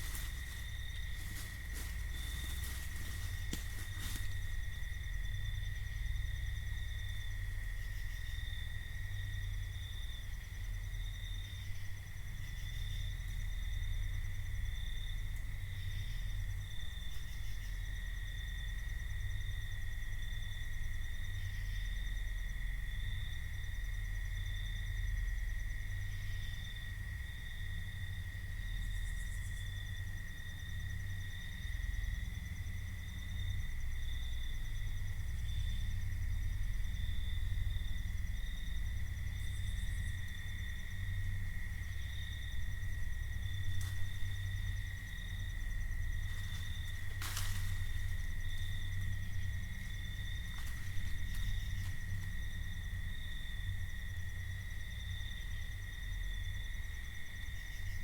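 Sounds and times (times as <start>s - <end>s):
night insects trilling: 0.0s - 58.0s.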